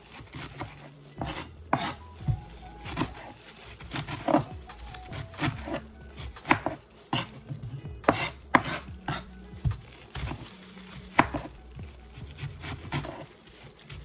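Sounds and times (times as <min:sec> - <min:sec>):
knife slicing cabbage: 0:00.0 - 0:14.0.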